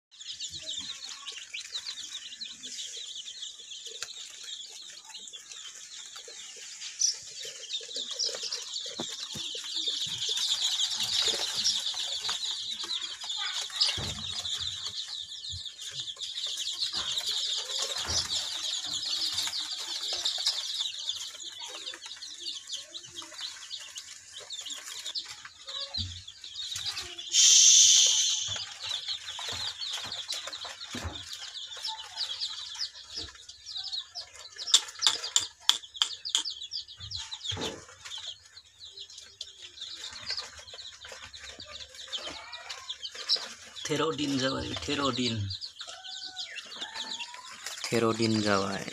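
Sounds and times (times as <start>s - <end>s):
chicks peeping: 0.1s - 48.9s.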